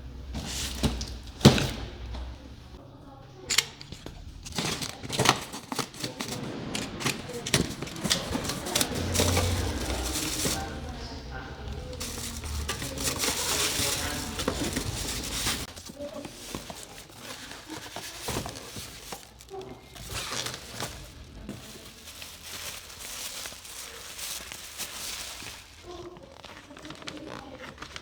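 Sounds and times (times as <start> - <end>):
plastic wrap and cardboard crinkling: 0.2 - 28.0.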